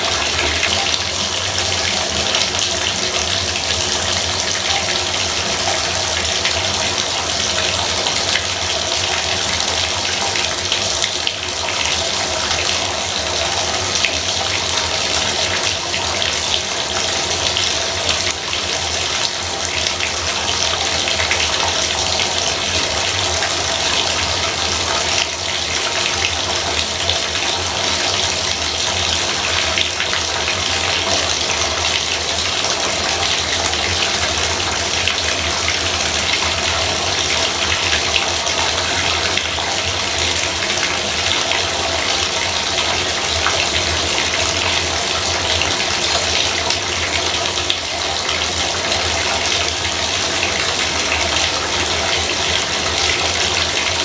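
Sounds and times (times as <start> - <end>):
water pouring into bathtub: 0.0 - 54.0.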